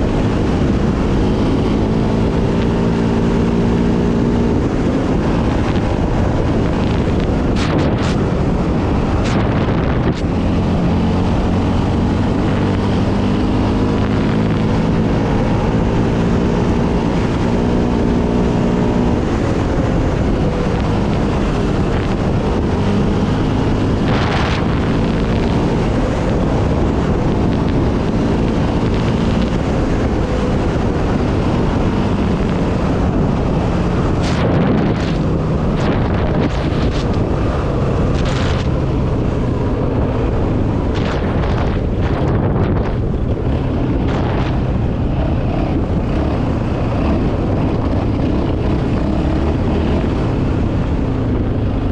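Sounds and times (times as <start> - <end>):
atv engine running: 0.0 - 51.9
wind buffeting microphone: 0.0 - 51.9.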